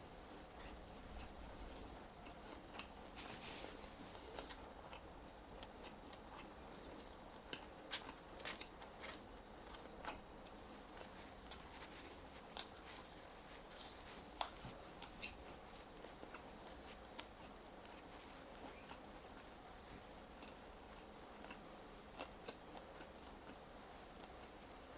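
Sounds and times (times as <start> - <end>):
fries being chewed: 0.0 - 24.9.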